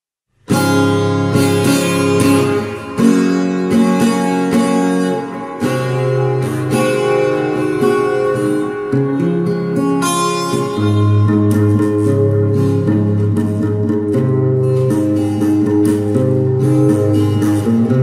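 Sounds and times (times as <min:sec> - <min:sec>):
acoustic guitar melody: 0:00.4 - 0:18.0.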